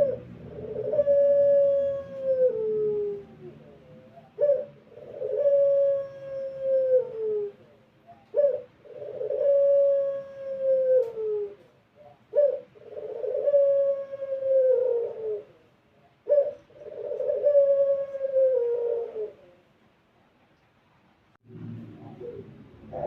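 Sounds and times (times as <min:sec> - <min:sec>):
dove cooing: 0:00.0 - 0:19.7, 0:22.0 - 0:23.0.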